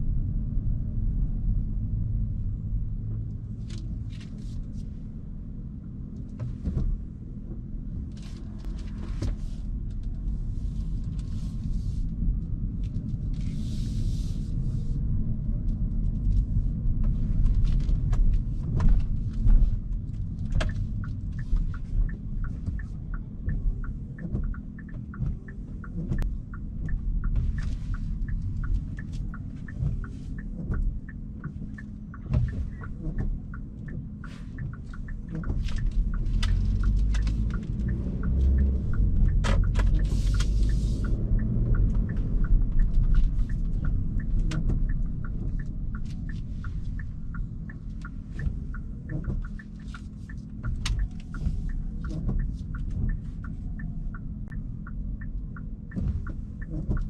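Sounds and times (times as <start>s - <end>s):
road rumble inside car: 0.0s - 57.0s.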